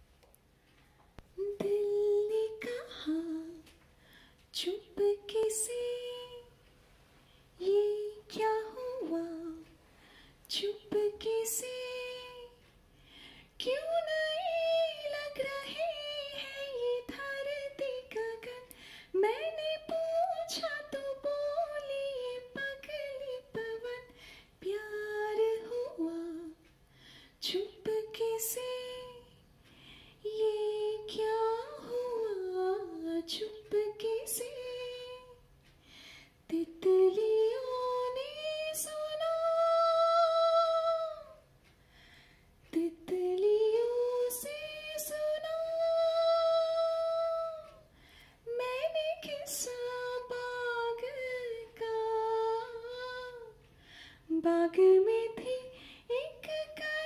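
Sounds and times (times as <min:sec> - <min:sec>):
woman singing unaccompanied: 0:01.2 - 0:03.8, 0:04.5 - 0:06.6, 0:07.6 - 0:09.8, 0:10.5 - 0:12.8, 0:13.6 - 0:26.7, 0:27.4 - 0:29.5, 0:30.2 - 0:35.5, 0:36.4 - 0:41.5, 0:42.7 - 0:53.6, 0:54.3 - 0:57.0.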